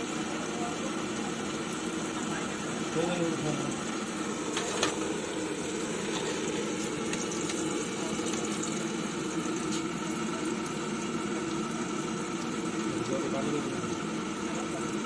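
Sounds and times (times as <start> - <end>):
food sizzling in hot oil: 0.0 - 15.0
gas burner roaring: 0.0 - 15.0.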